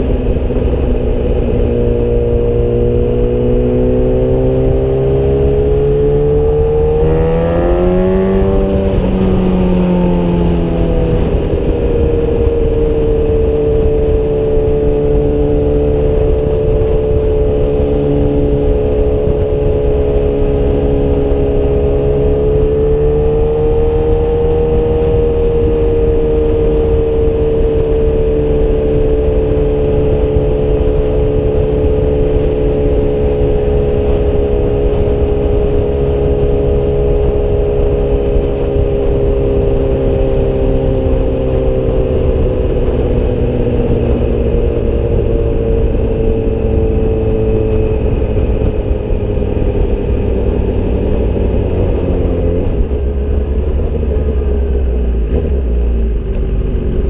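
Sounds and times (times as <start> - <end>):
motorcycle engine cruising: 0.0 - 57.0
wind rumble on microphone: 0.0 - 57.0.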